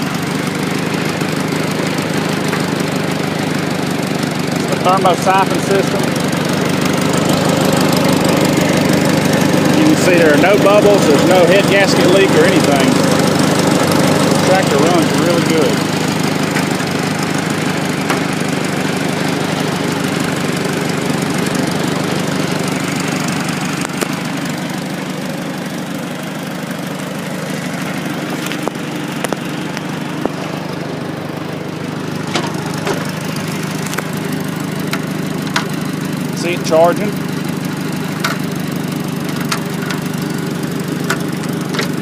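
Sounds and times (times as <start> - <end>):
tractor engine running steadily: 0.0 - 42.0.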